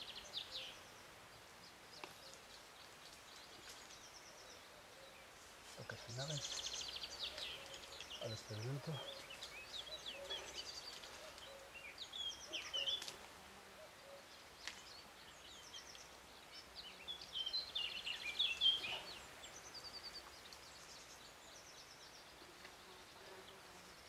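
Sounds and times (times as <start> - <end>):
songbirds trilling and chirping: 0.0 - 24.0.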